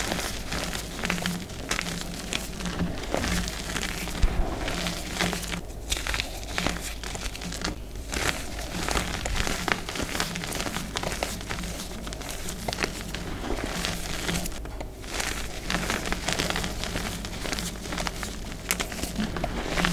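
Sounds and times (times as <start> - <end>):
chalk crunching in hands: 0.0 - 19.9.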